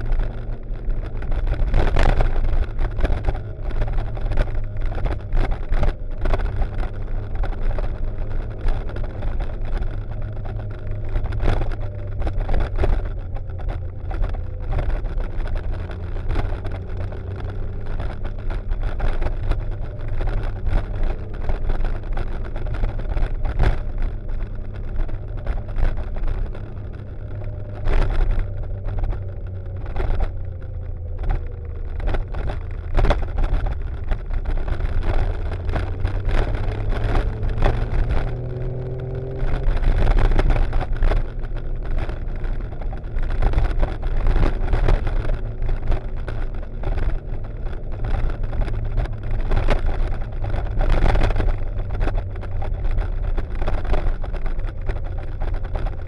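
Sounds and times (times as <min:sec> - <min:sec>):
motorcycle engine running: 0:00.0 - 0:56.0
wind buffeting on microphone: 0:00.0 - 0:56.0.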